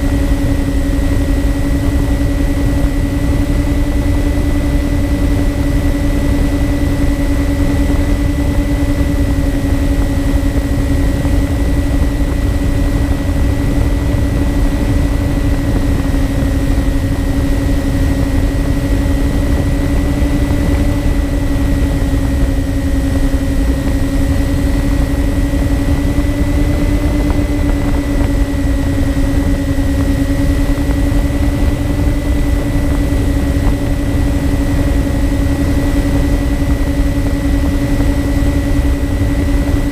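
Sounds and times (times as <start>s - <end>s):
model plane motors droning: 0.0s - 39.9s
wind rushing over microphone: 0.0s - 39.9s.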